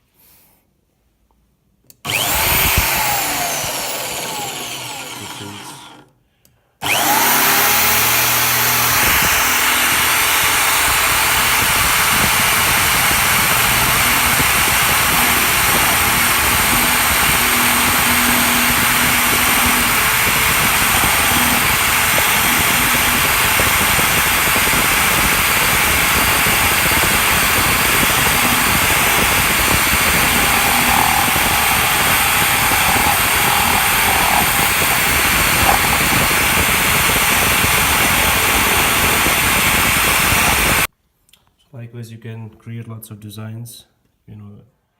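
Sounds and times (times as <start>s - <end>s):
electric drill whirring: 2.0s - 6.1s, 6.8s - 40.9s.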